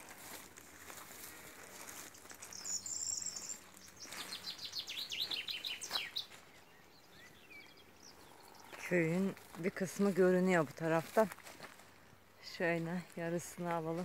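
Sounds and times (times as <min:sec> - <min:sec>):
songbirds singing: 0:00.8 - 0:14.0.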